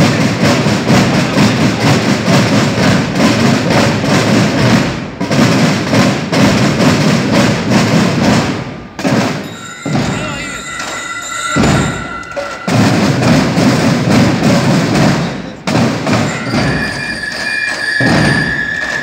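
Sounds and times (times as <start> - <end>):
marching snare and bass drums: 0.0 - 19.0.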